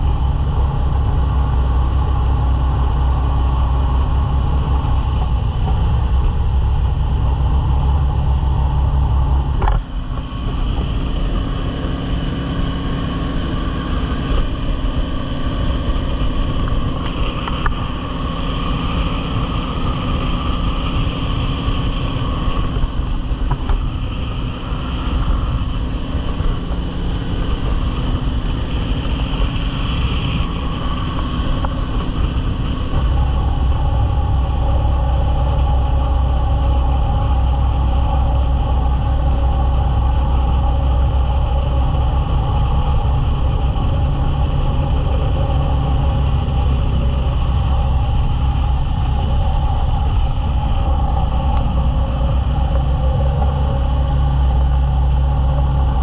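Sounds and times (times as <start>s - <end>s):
jet boat engine: 0.0s - 56.0s.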